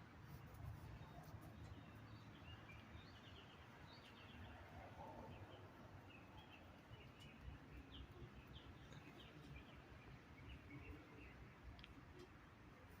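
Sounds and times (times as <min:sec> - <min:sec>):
faint outdoor hum: 0:00.0 - 0:13.0.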